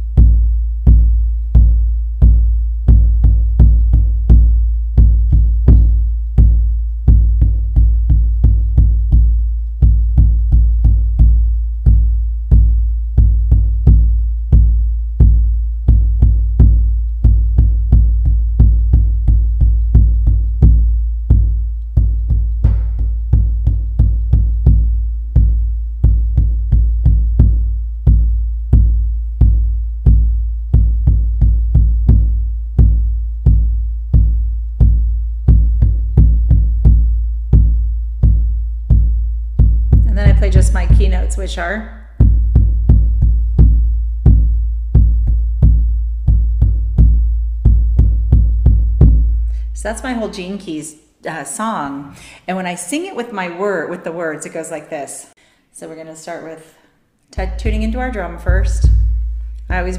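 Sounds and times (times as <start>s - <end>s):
deep drum beats: 0.0s - 50.5s, 57.4s - 59.9s.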